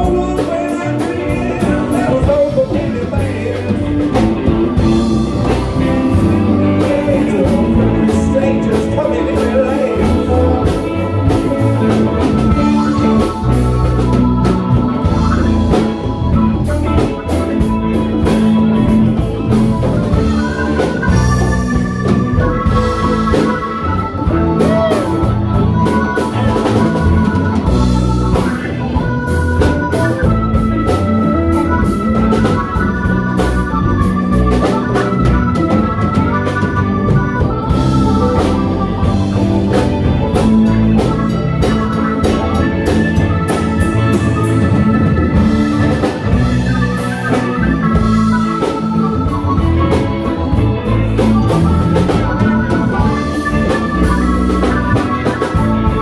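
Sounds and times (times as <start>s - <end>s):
drums: 0.0s - 56.0s
live band playing instrumental: 0.0s - 56.0s.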